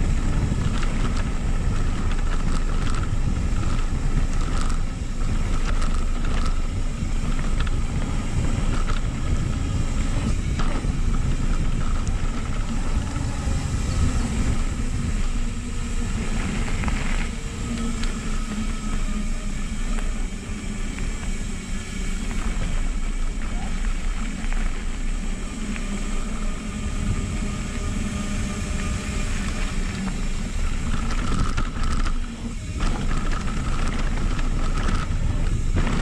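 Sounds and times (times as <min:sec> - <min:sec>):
bike and stones rattling: 0:00.0 - 0:36.0
tyres rumbling on gravel: 0:00.0 - 0:36.0
wind on microphone: 0:00.0 - 0:36.0.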